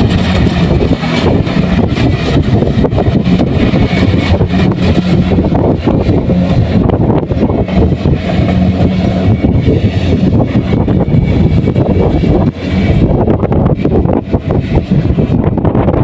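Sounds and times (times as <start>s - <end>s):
combine harvester engine humming: 0.0s - 16.0s.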